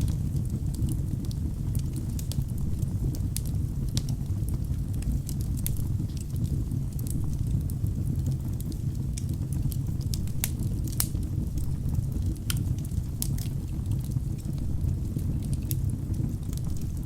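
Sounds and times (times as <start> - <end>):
burning logs crackling and popping: 0.0 - 17.0
flames rumbling in fireplace: 0.0 - 17.0.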